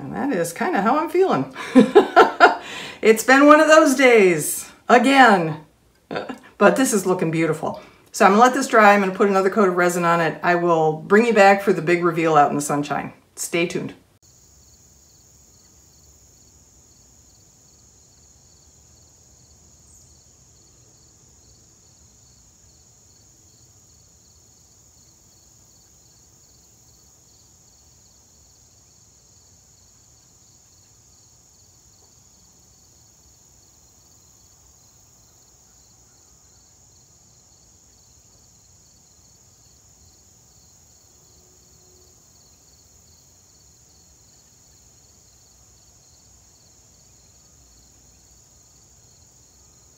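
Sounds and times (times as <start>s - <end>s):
insects pulsing chirp: 0.0s - 10.6s, 14.2s - 49.9s
insects trilling: 0.0s - 12.5s, 14.2s - 49.9s.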